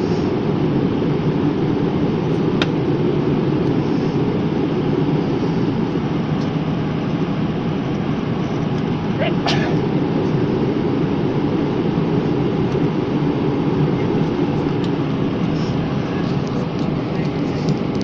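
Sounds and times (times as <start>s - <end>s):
aeroplane cabin drone: 0.0s - 18.0s.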